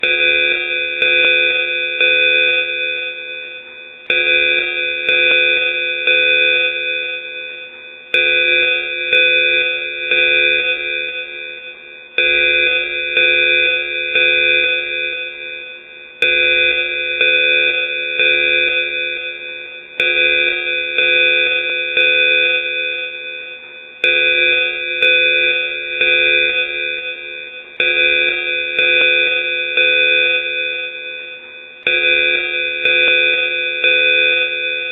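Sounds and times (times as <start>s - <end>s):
pulsing alarm ringing tone: 0.0s - 34.9s.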